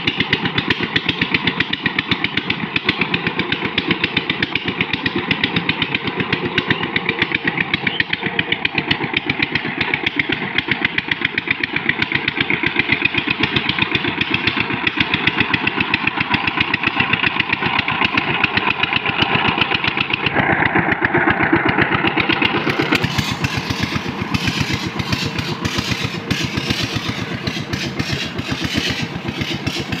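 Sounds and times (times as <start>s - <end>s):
diesel engine chugging: 0.0s - 30.0s.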